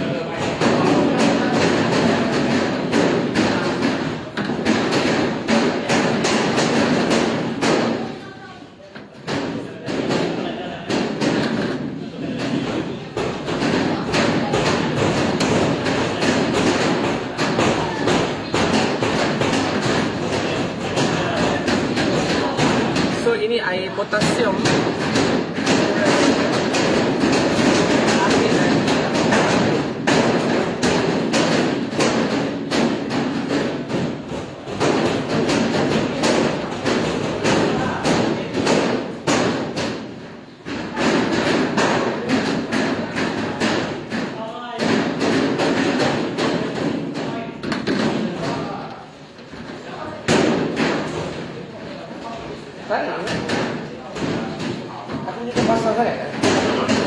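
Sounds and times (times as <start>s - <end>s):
busy room noise: 0.0s - 57.0s.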